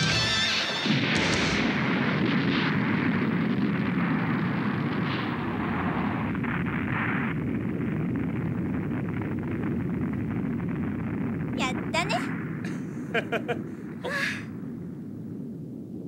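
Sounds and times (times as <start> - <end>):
explosion rumble: 0.0 - 16.0.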